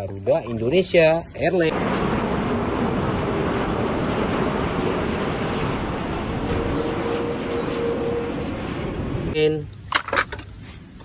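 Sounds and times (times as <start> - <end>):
jet engine rush: 0.4 - 11.0.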